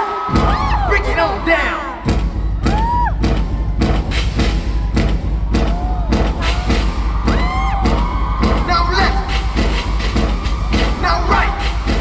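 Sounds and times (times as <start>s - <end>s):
hip-hop instrumental: 0.0s - 12.0s.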